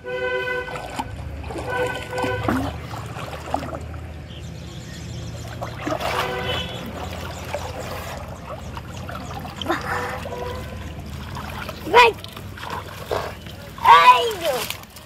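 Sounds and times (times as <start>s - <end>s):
water trickling and sloshing: 0.0s - 15.0s
net dripping water: 0.3s - 15.0s.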